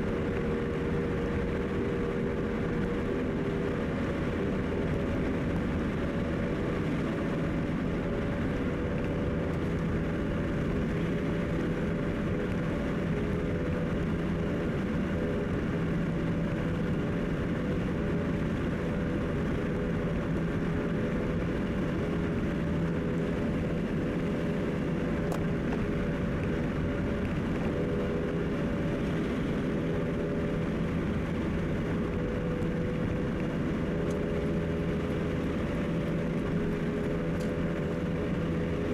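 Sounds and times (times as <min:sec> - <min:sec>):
car road and engine noise: 0:00.0 - 0:38.9
low hum: 0:00.0 - 0:38.9.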